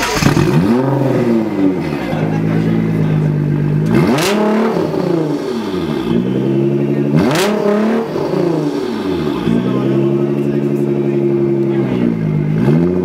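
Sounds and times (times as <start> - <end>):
car engine revving: 0.0 - 13.0
sharp exhaust noise: 0.0 - 13.0.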